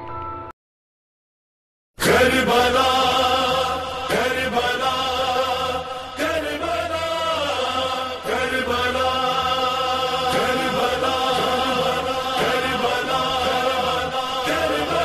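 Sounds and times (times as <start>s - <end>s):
voices chanting long notes: 2.1s - 15.0s.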